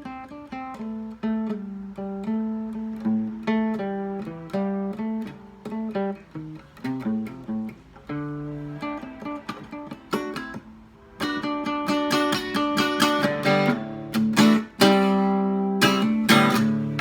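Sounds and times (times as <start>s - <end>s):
acoustic guitar blues melody: 0.0s - 17.0s.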